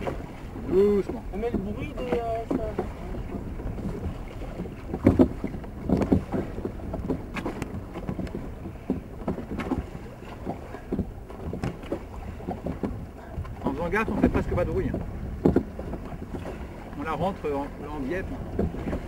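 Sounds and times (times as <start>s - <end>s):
oars clunking in rowlocks: 0.0s - 19.0s
oars dipping into water: 0.0s - 19.0s
wind rumble on microphone: 0.0s - 19.0s.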